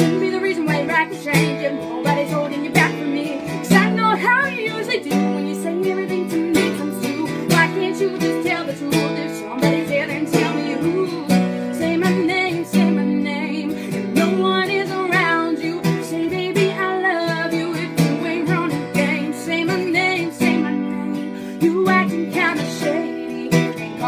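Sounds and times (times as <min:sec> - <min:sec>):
acoustic guitar strumming: 0:00.0 - 0:24.0
woman singing: 0:00.0 - 0:24.0.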